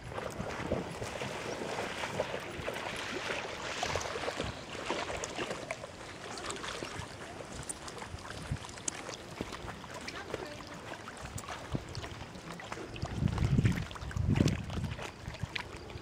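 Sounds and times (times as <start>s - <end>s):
dogs splashing in water: 0.0s - 16.0s
water sloshing: 0.0s - 16.0s.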